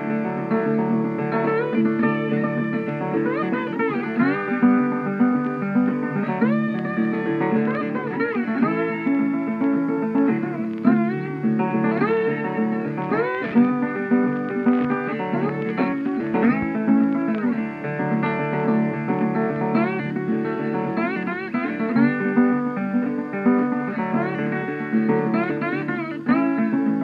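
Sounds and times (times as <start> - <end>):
plucked guitar melody: 0.0 - 27.0.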